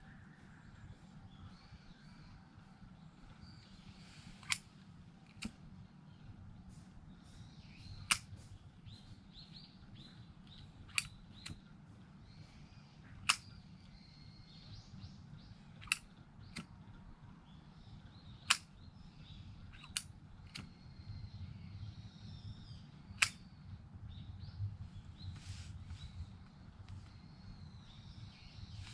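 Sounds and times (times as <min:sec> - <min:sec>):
small birds chirping faintly: 0:00.0 - 0:28.9.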